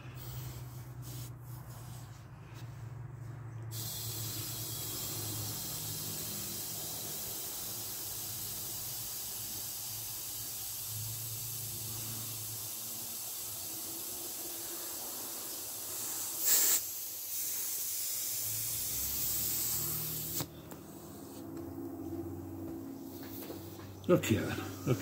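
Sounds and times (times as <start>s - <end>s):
air hissing from valve: 0.0s - 2.3s, 3.7s - 21.7s.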